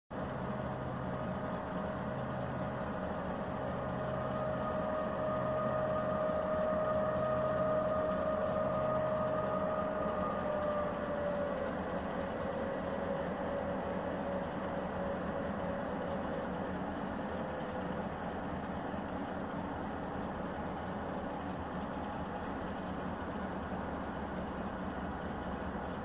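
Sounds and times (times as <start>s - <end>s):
high steady whine: 0.1s - 26.0s
locomotive engine drone: 0.1s - 26.0s.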